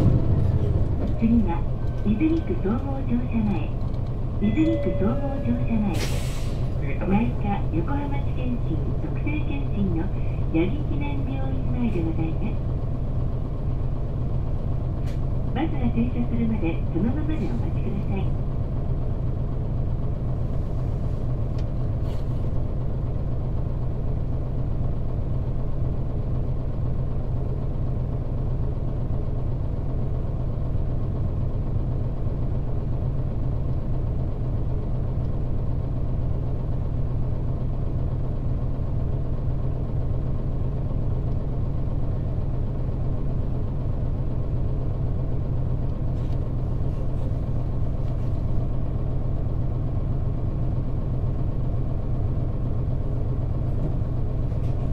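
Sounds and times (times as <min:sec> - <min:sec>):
bus diesel engine idling: 0:00.0 - 0:54.9.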